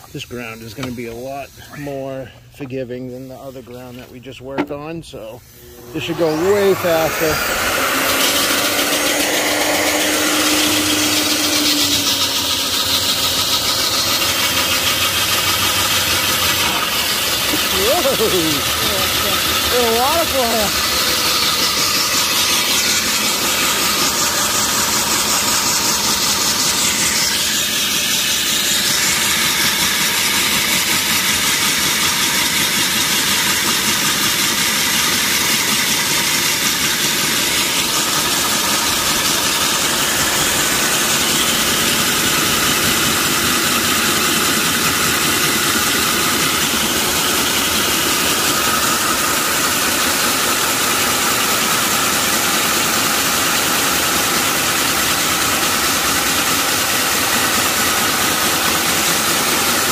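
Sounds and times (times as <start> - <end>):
core drill grinding asphalt: 0.0 - 59.9.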